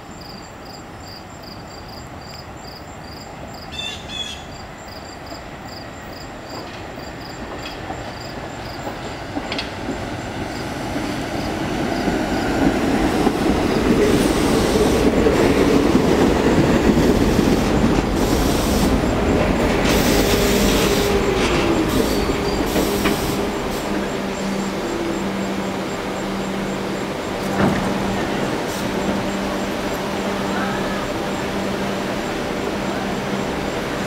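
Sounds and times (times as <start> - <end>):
subway train wheels rumbling: 0.0 - 34.0.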